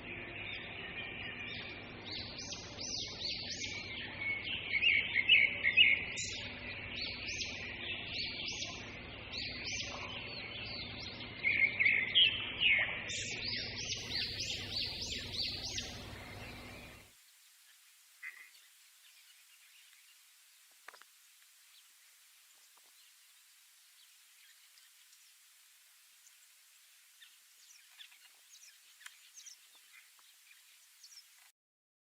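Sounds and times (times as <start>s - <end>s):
birds chirping: 0.0s - 31.4s.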